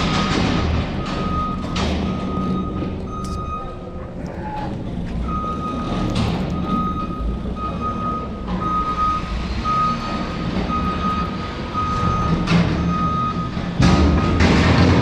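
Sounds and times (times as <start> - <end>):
low engine rumble: 0.0 - 15.0
back-up alarm beeping: 1.0 - 14.6.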